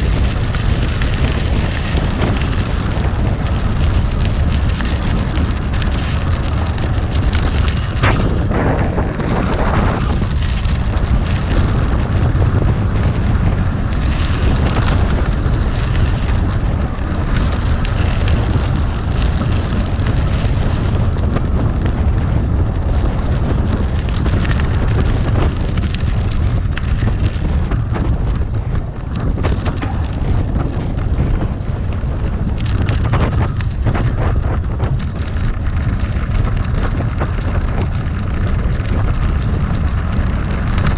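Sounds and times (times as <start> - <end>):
bike tyres rolling over gravel: 0.0 - 40.9
wind rumble on microphone: 0.0 - 40.9.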